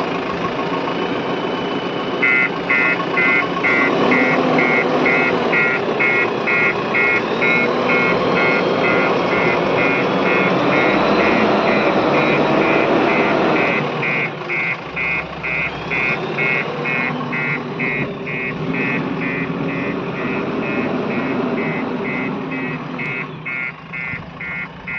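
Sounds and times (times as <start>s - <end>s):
backhoe engine running: 0.0s - 24.9s
rapid electronic beeping: 2.2s - 24.9s.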